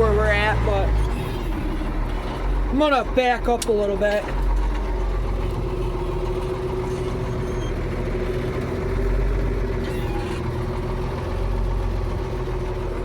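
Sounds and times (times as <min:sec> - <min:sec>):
engine whine: 0:00.0 - 0:13.0
tractor diesel engine rumbling: 0:00.0 - 0:13.0.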